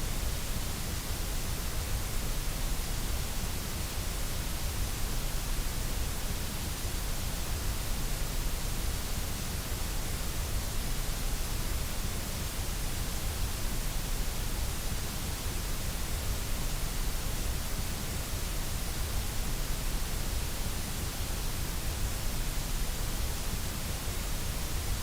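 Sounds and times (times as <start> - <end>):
steady white noise hiss: 0.0 - 25.0.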